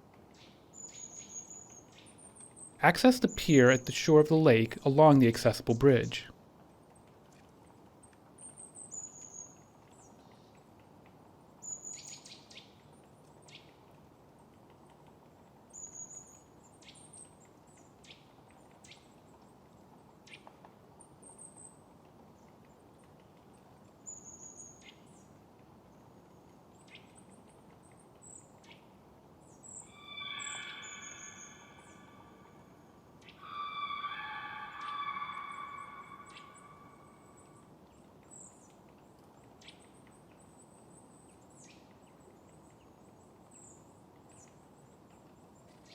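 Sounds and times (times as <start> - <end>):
small birds chirping faintly: 0.0 - 45.9.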